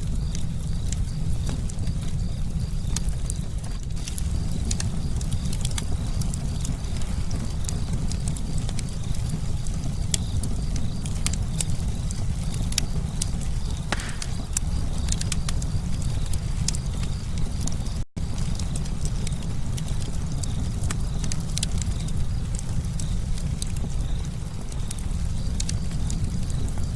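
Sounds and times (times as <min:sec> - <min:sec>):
campfire crackling: 0:00.0 - 0:26.9.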